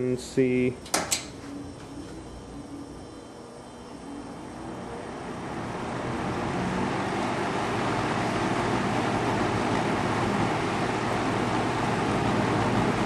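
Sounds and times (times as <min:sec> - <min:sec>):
box fan rushing air: 0:00.0 - 0:13.0.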